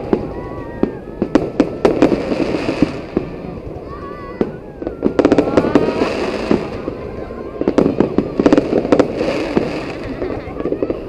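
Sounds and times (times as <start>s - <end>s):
crowd murmur: 0.0s - 11.0s.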